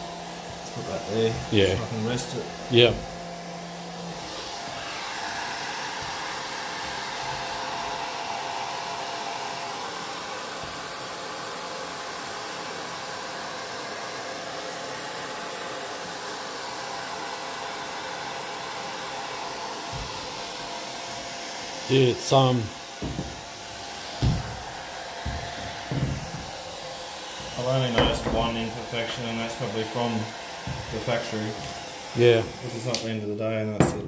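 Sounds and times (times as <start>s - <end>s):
hair dryer blowing: 0.0s - 34.0s.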